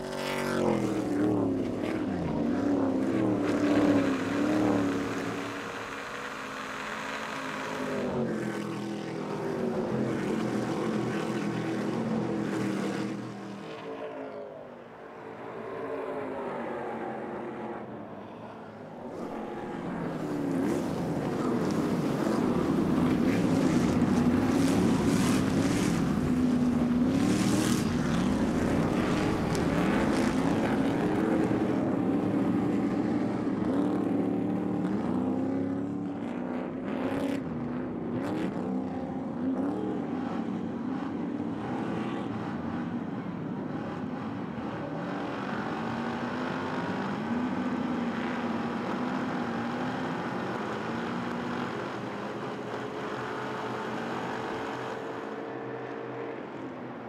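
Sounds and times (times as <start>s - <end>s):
race truck engines revving: 0.0s - 57.0s.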